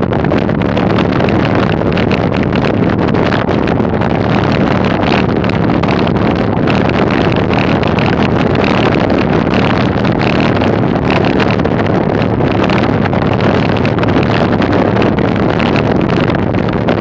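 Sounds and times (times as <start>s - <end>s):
bicycle tyres rolling on dirt: 0.0s - 17.0s
wind rushing over microphone: 0.0s - 17.0s.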